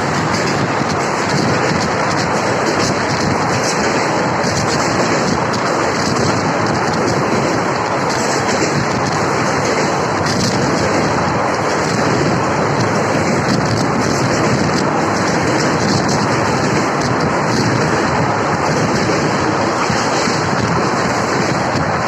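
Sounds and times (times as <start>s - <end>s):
moving passenger train: 0.0s - 22.0s.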